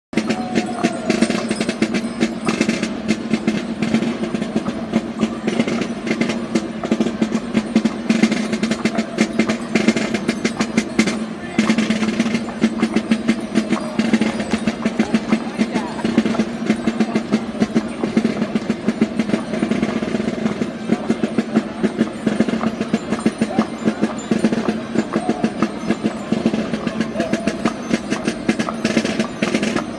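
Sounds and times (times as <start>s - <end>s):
crowd voices: 0.1s - 29.9s
snare drum rolls: 0.2s - 29.9s.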